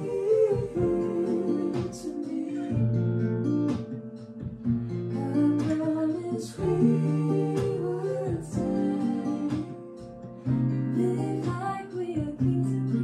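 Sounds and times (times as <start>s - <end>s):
person singing: 0.0s - 3.0s, 5.1s - 13.0s
acoustic guitar strumming: 0.0s - 13.0s
piano chords: 0.0s - 13.0s.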